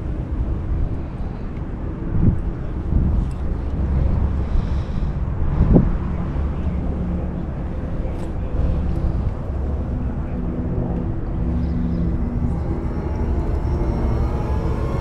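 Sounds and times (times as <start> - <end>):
distant engine drone: 0.0 - 15.0
faint hum tones: 0.0 - 15.0.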